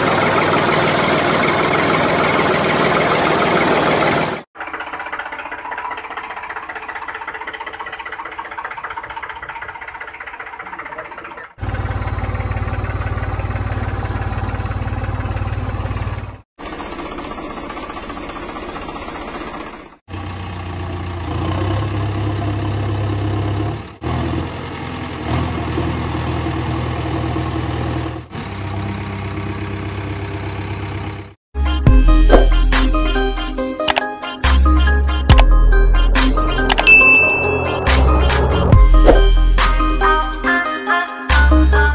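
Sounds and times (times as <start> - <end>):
tractor engine running: 0.0 - 40.7.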